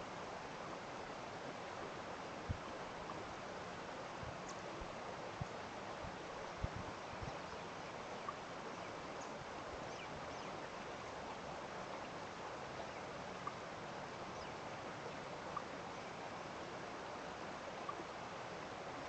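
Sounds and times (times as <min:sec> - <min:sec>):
outdoor ambience hiss: 0:00.0 - 0:19.0.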